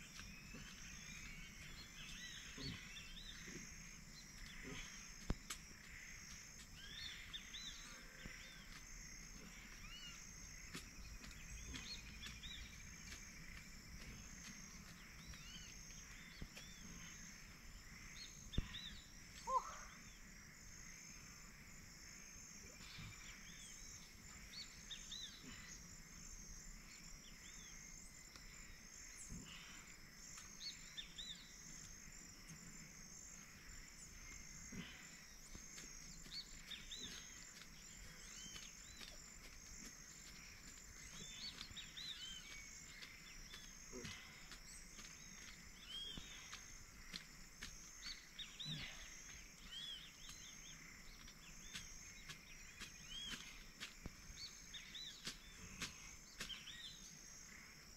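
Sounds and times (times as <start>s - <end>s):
high-pitched insect chorus: 0.0s - 57.9s.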